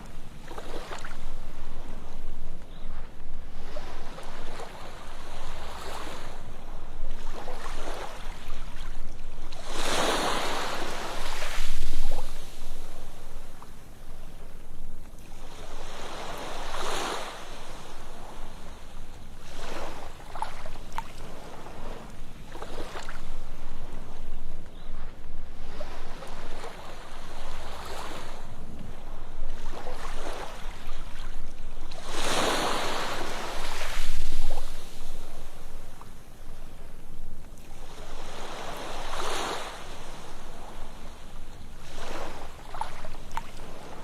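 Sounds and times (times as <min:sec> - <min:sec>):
ocean waves breaking on a beach: 0:00.0 - 0:44.0.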